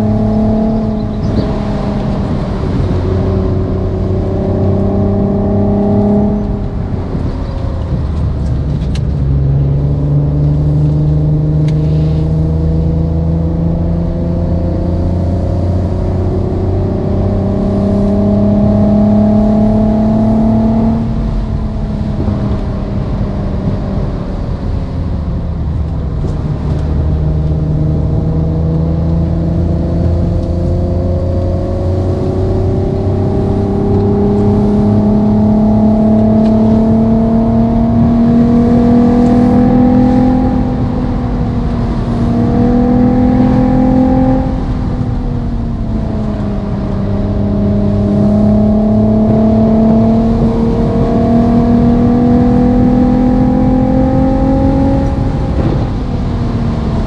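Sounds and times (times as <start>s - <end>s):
simulated sports car engine: 0.0s - 57.0s.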